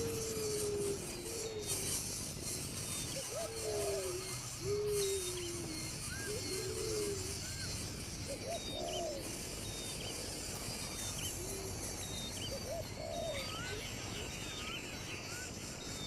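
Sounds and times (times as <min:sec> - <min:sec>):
whistled bird chirps: 0:00.0 - 0:16.0.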